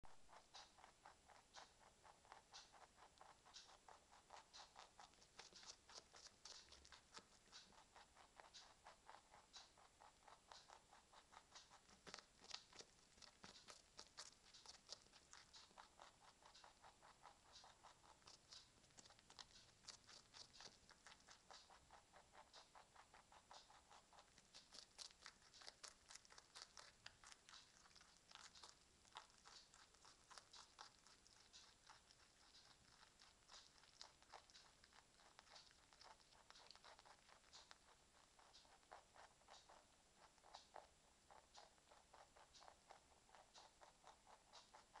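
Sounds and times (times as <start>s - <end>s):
rabbit chewing carrot: 0.0s - 45.0s.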